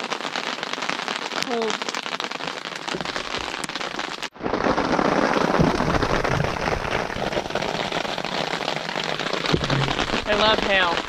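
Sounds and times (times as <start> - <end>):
rain and hail on fabric: 0.0 - 11.0.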